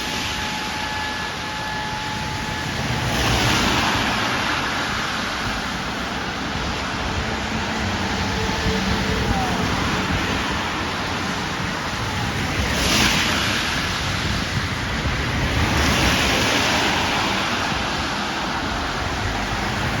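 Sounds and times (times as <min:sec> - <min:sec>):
tyre spray on wet road: 0:00.0 - 0:20.0.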